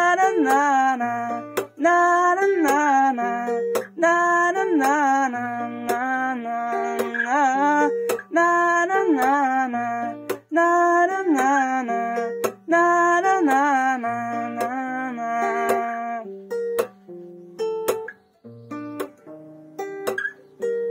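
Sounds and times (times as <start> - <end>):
held sliding melody line: 0.0 - 20.9
plucked string accompaniment: 0.0 - 20.9.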